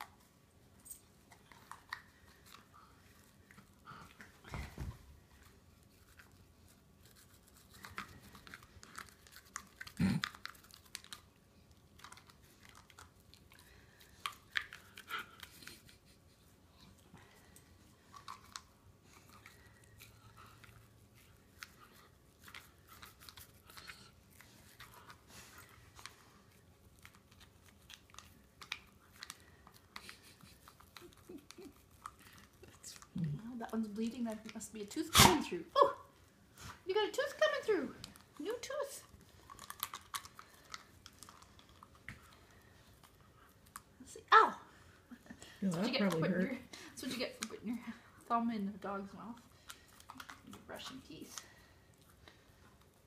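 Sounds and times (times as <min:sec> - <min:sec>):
puppy chewing and gnawing: 0:00.0 - 0:35.0, 0:37.8 - 0:44.1, 0:44.7 - 0:53.0.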